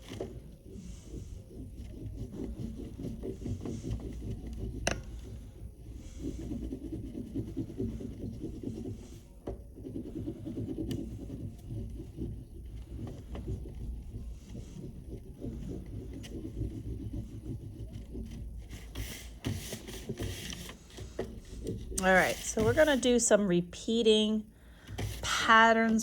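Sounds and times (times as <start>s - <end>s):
oil pastel scraping on paper: 0.0s - 24.0s, 24.9s - 26.0s.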